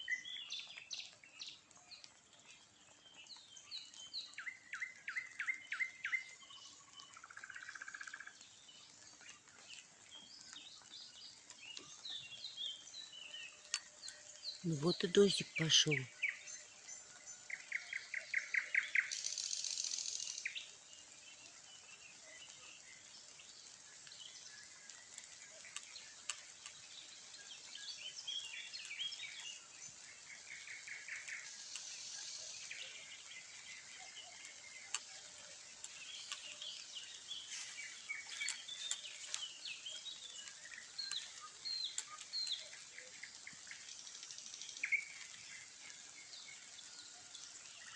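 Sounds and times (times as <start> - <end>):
light rain tapping: 0.0 - 47.9
small birds singing and chirping: 0.0 - 47.9.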